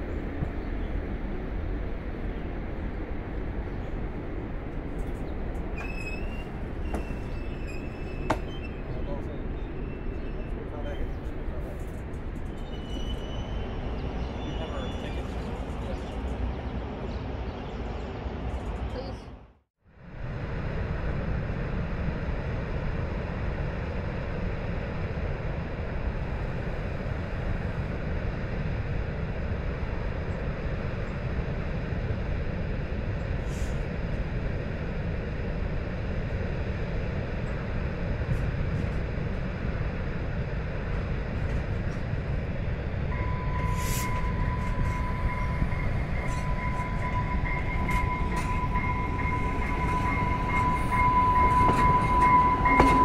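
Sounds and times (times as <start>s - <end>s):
diesel train approaching: 0.0s - 53.0s
high-pitched railcar whine: 0.0s - 53.0s.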